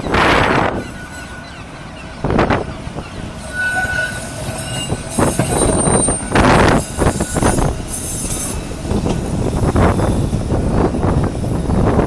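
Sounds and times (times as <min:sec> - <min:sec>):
high wheel squeal: 0:00.0 - 0:10.6
tram wheels rumbling on rails: 0:00.0 - 0:12.0.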